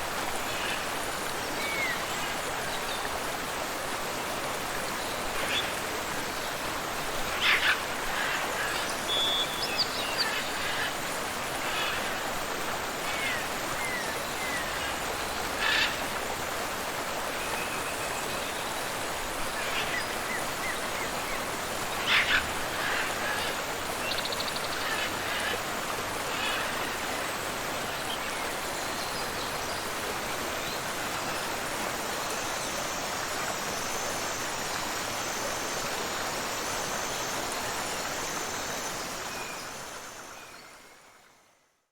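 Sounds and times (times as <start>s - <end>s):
waterfall and river rushing: 0.0s - 41.1s.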